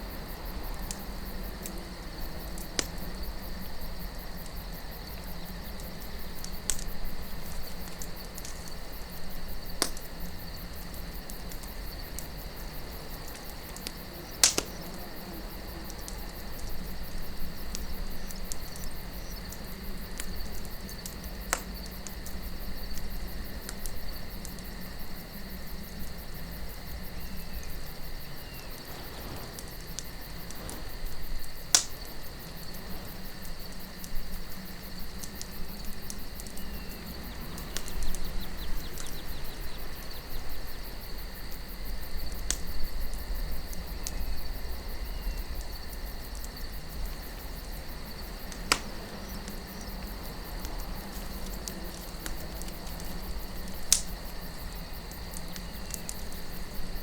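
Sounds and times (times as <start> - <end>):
campfire crackling: 0.0 - 57.0
soft wind: 0.0 - 57.0.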